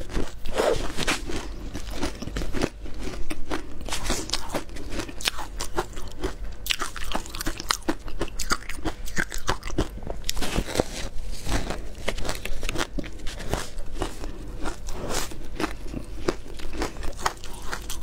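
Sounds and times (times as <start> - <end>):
crunching shaved ice: 0.0 - 18.0.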